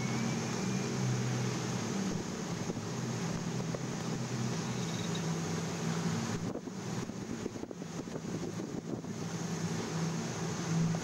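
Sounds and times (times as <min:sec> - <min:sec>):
sea noise: 0:00.0 - 0:11.0
ship engines droning: 0:00.0 - 0:11.0
wind: 0:00.0 - 0:11.0.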